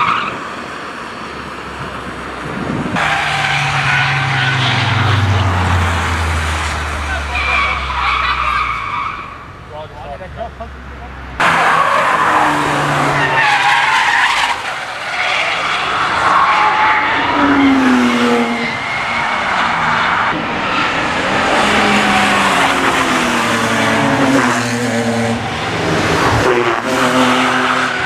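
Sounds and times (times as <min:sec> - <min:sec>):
tyres squealing and skidding: 0:00.0 - 0:00.6, 0:02.9 - 0:09.8, 0:11.4 - 0:28.0
car engines revving past: 0:00.0 - 0:28.0.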